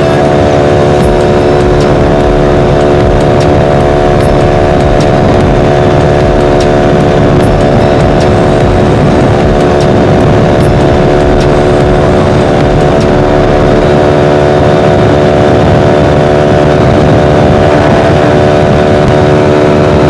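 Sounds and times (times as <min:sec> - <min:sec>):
motorcycle engine loud exhaust: 0:00.0 - 0:20.0.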